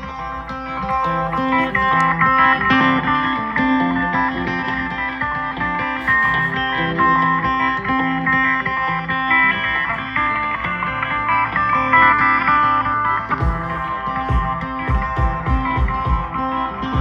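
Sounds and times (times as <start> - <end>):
bass line: 0.0 - 8.2, 10.0 - 17.0
plucked electric guitar: 0.0 - 17.0.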